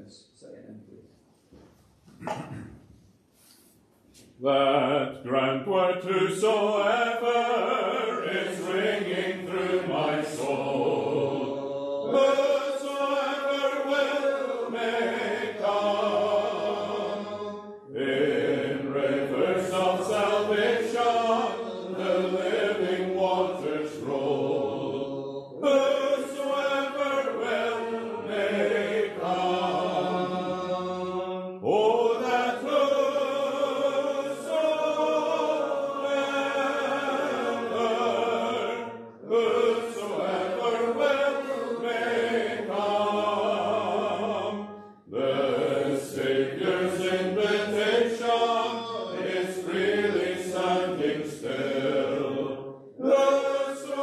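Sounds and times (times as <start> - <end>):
congregation singing a hymn: 4.4 - 54.0.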